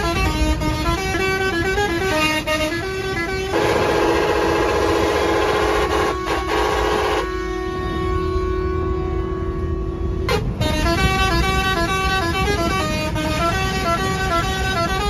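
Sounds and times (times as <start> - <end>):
bus engine and road rumble: 0.0 - 15.0
bus musical horn: 0.0 - 15.0.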